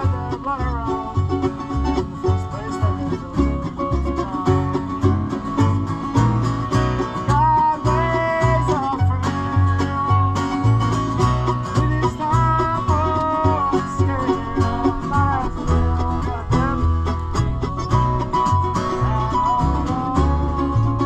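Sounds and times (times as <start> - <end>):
banjo: 0.0 - 21.0
bass line: 0.0 - 21.0
bluegrass band jamming: 0.0 - 21.0.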